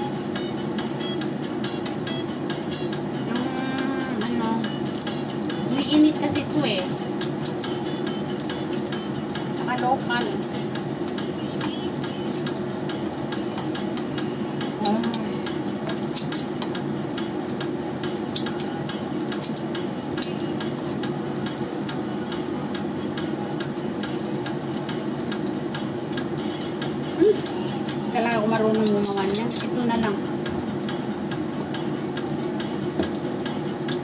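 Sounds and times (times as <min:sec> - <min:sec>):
frying oil sizzling and popping: 0:00.0 - 0:34.0.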